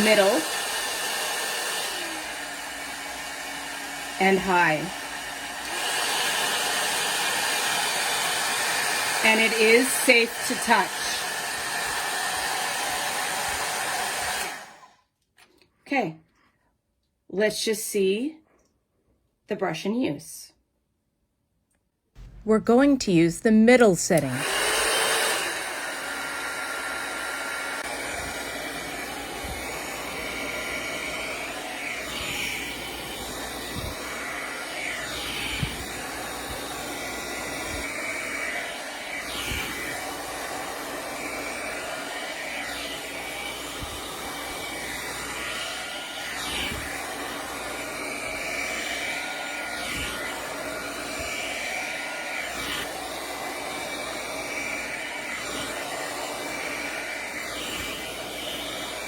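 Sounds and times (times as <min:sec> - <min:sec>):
hair dryer brush blowing air: 0:00.0 - 0:15.0, 0:22.2 - 0:59.0.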